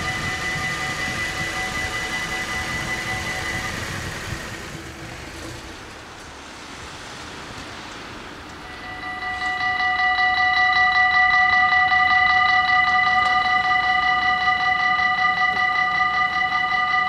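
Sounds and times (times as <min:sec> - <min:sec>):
level crossing warning bells: 0:00.0 - 0:05.5, 0:08.6 - 0:17.0
road and outdoor noise: 0:00.0 - 0:17.0.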